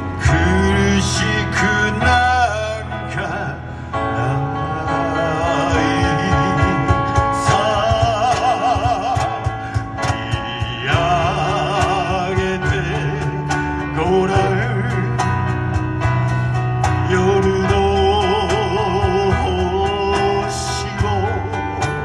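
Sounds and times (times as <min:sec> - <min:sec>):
person singing with vibrato: 0:00.0 - 0:15.5, 0:16.9 - 0:22.0
plucked instrumental accompaniment: 0:04.2 - 0:22.0.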